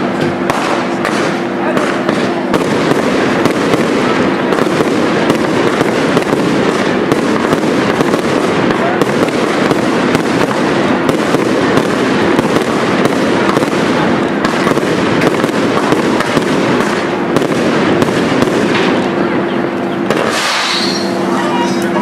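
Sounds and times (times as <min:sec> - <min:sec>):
fireworks barrage bangs and crackling: 0:00.0 - 0:22.0.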